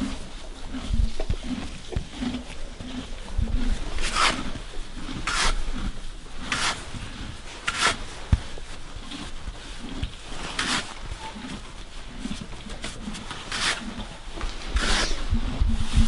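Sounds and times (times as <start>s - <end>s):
horse chewing hay: 0.0s - 16.0s.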